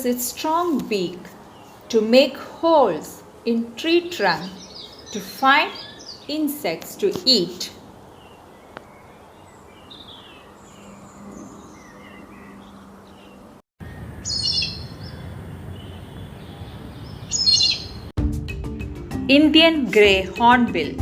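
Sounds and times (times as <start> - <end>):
outdoor background noise: 0.0 - 18.2
birds chirping: 0.2 - 18.1.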